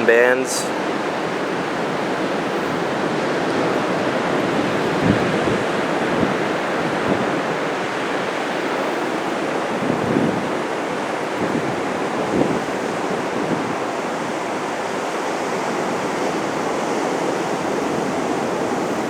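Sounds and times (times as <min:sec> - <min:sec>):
heavy ocean surf breaking: 0:00.0 - 0:19.0
wind gusts buffeting microphone: 0:00.0 - 0:19.0.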